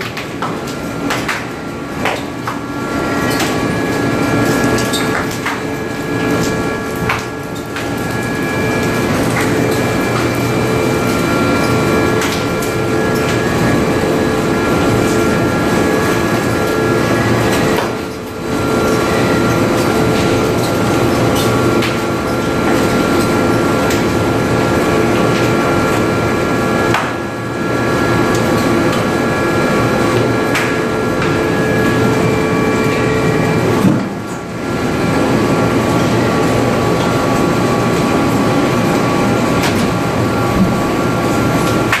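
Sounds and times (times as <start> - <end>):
factory machinery din: 0.0 - 42.0
whining machine tones: 0.8 - 42.0.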